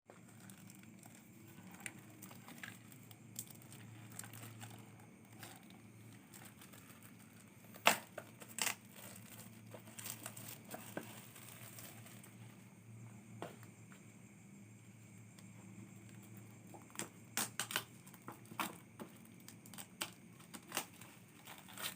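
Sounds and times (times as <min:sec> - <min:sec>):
crinkling and rustling: 0:00.1 - 0:12.7, 0:15.4 - 0:21.9.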